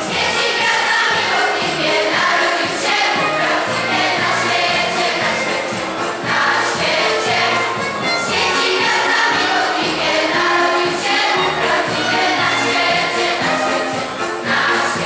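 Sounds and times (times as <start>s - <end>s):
choir singing a carol: 0.0s - 15.0s
instrumental accompaniment: 0.0s - 15.0s.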